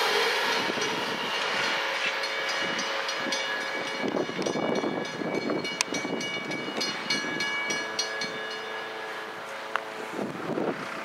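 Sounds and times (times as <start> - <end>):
train wheels clattering over rails: 0.0 - 10.0
crossing warning bell ringing: 0.0 - 10.2.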